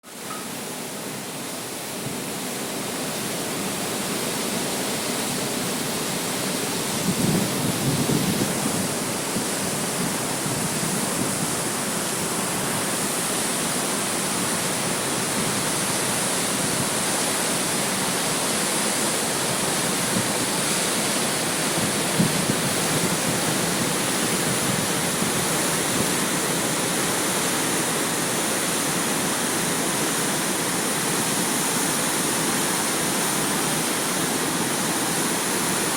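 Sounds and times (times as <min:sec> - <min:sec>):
water rushing: 0:00.0 - 0:35.9.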